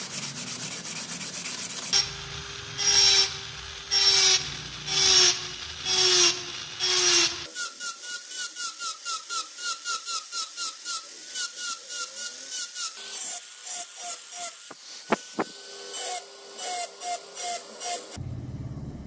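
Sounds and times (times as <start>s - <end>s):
rotary tool grinding metal: 0.0s - 18.2s.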